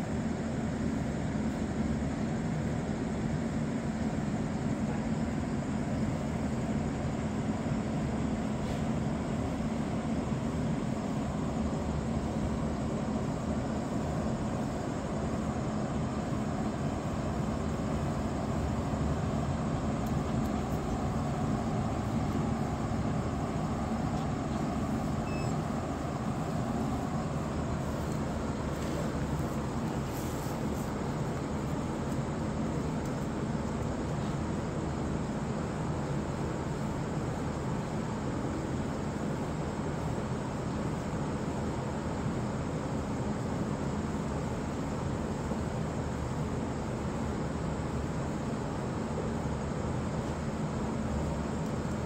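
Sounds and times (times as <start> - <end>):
low machine drone: 0.0 - 52.0.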